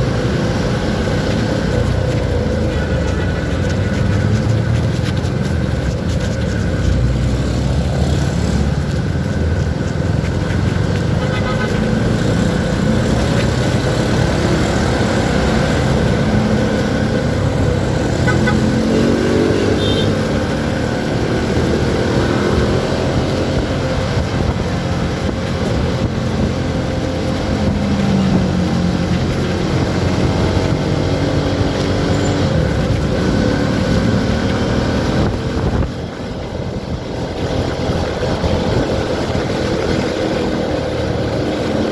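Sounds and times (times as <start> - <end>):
motorcycle engine running: 0.0 - 41.9
wind noise: 0.0 - 41.9.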